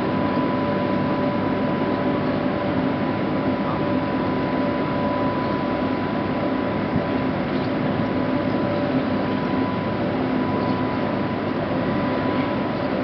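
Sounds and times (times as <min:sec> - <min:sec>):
lift machinery humming and whining: 0:00.0 - 0:13.0.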